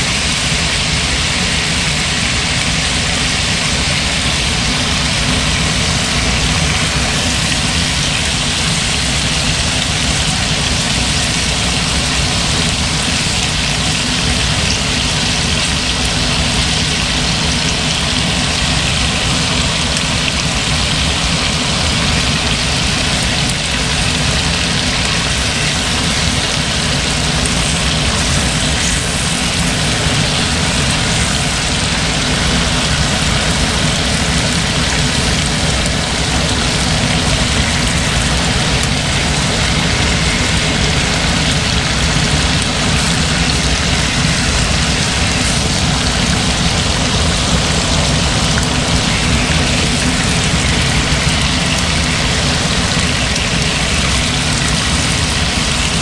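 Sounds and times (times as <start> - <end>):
chicken wings sizzling in oil: 0.0 - 56.0.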